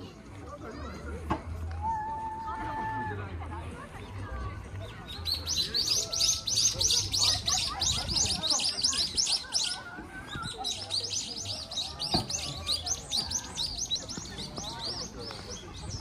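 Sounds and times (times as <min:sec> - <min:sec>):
faint voices of people: 0:00.0 - 0:16.0.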